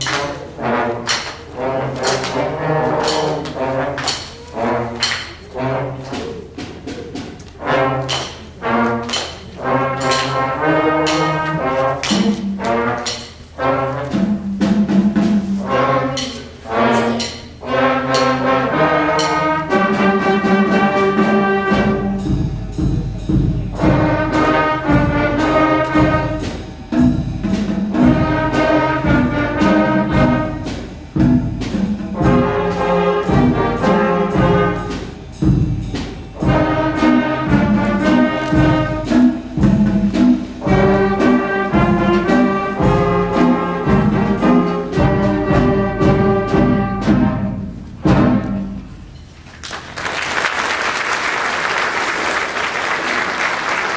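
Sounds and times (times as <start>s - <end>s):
brass band chords: 0.0s - 49.2s
steady drum beat: 0.0s - 49.2s.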